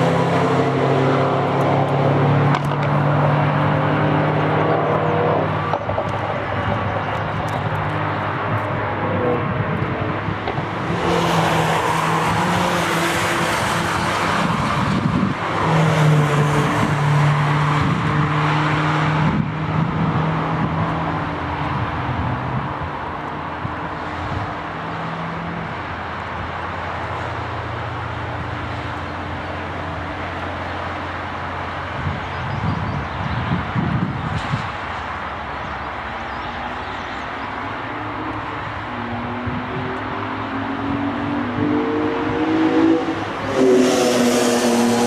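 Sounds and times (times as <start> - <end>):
race cars passing: 0.0 - 45.0.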